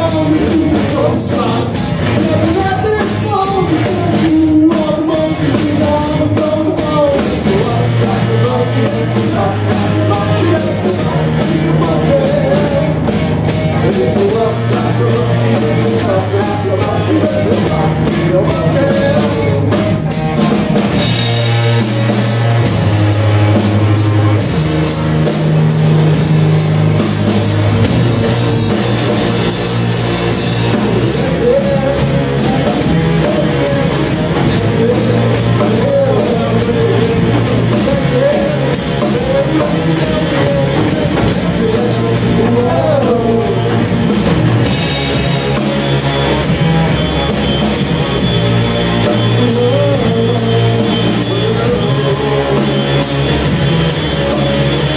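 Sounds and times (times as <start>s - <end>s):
distorted electric guitar: 0.0s - 54.9s
drum kit beat: 0.0s - 54.9s
electric bass: 0.0s - 54.9s.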